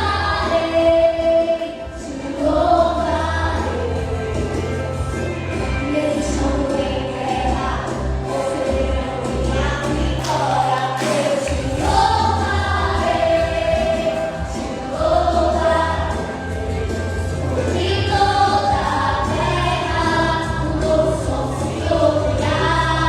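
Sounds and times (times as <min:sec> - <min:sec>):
gospel group singing in harmony: 0:00.0 - 0:23.0
instrumental accompaniment with bass: 0:00.0 - 0:23.0.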